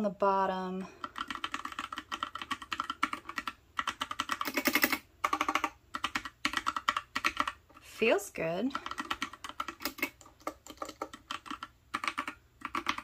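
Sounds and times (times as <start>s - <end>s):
mechanical keyboard typing: 1.0s - 7.6s, 8.7s - 13.0s.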